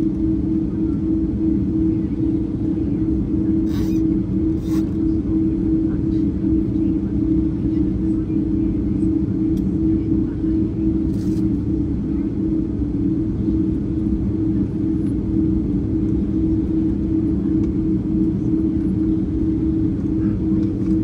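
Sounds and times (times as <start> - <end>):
airliner engines droning: 0.0 - 21.0.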